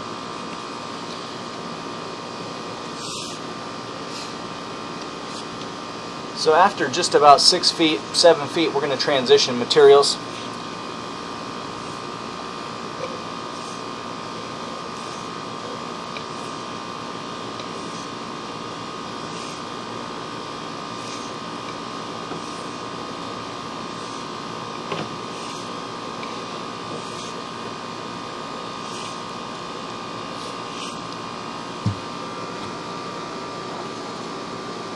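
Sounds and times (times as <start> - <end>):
constant high hum: 0.0 - 34.9.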